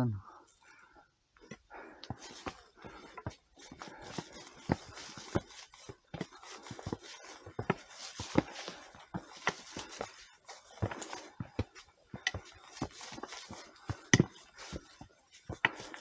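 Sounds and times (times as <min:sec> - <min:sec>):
footsteps on hard trail: 0:01.4 - 0:16.0.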